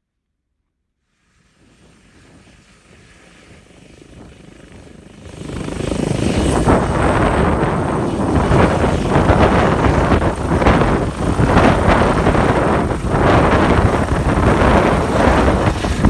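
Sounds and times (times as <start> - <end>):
helicopter engine and rotor: 1.4 - 16.0.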